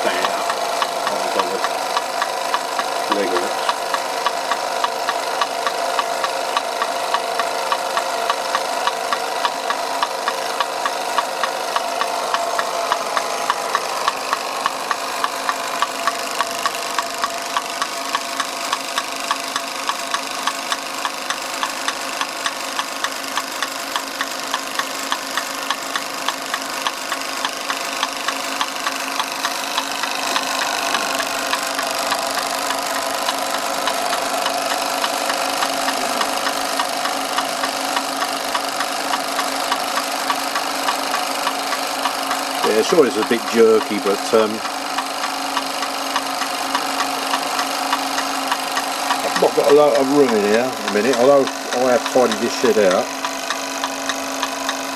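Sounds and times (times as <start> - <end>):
toy steam engine running: 0.0 - 54.9
regular knocking clicks: 0.2 - 54.9.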